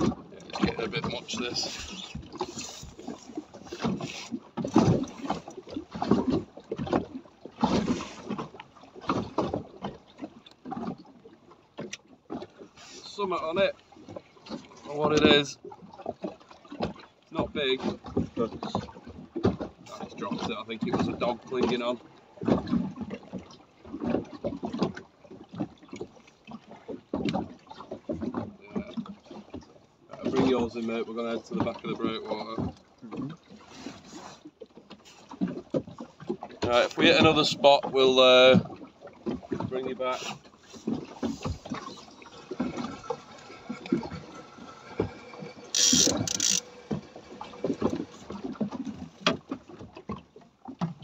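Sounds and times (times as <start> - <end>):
water slapping boat hull: 0.0 - 51.0.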